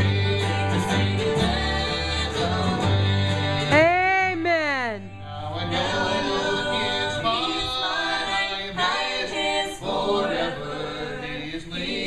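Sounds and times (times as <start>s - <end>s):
group singing a cappella gospel: 0.0s - 3.8s, 5.3s - 12.0s.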